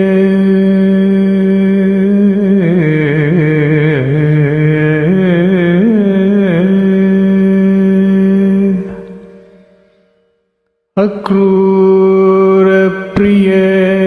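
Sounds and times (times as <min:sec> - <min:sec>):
wordless singing: 0:00.0 - 0:10.0, 0:11.0 - 0:14.0.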